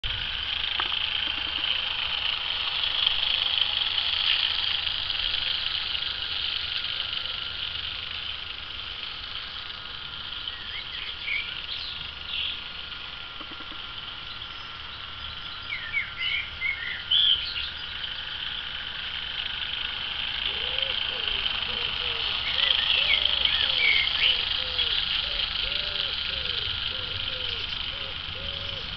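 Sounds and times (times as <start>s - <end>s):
birds chirping: 0.0s - 28.9s
toy train motor whining: 0.0s - 28.9s.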